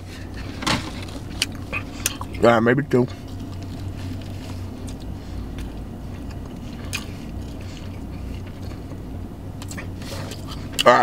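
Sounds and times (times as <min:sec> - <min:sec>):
steady low hum: 0:00.0 - 0:11.0
person chewing food: 0:00.3 - 0:02.4, 0:03.2 - 0:11.0.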